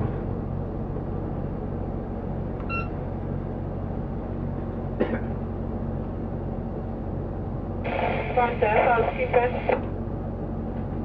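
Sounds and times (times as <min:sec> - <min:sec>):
boat engine humming: 0:00.0 - 0:10.8.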